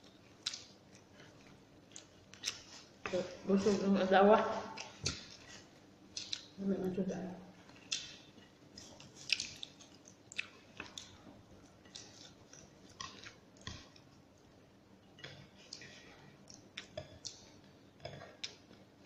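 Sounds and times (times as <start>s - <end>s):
person chewing food: 0.0s - 3.8s, 4.7s - 6.6s, 7.6s - 19.0s.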